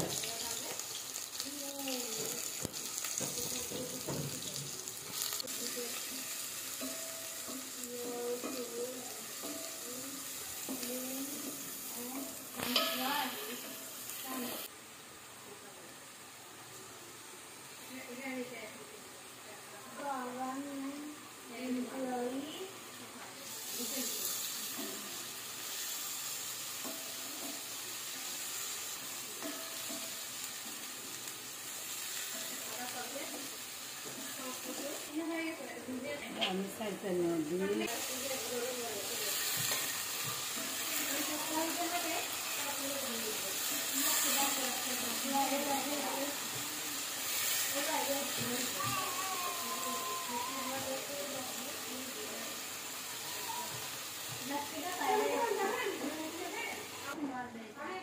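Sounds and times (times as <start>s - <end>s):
onions sizzling in a pot: 0.0s - 58.0s.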